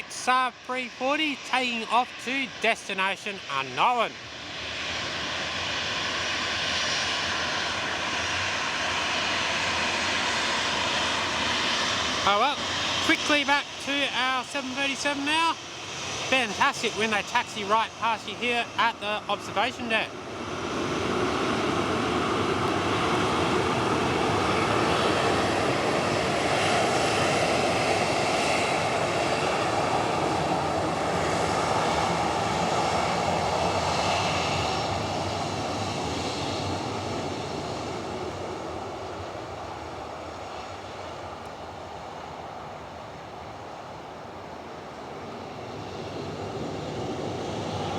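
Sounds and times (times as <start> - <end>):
jet engines whining: 0.0 - 47.9.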